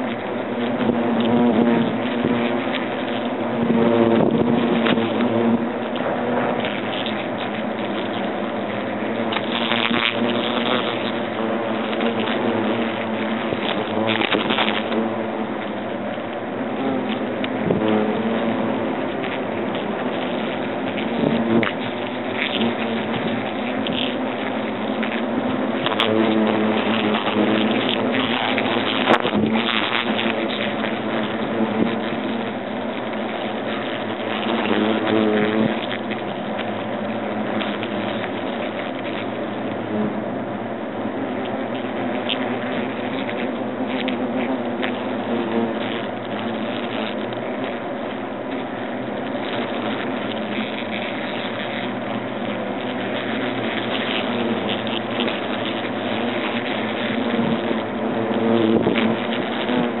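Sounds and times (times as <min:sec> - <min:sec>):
hornet droning close by: 0:00.0 - 1:00.0
hornets buzzing: 0:00.0 - 1:00.0.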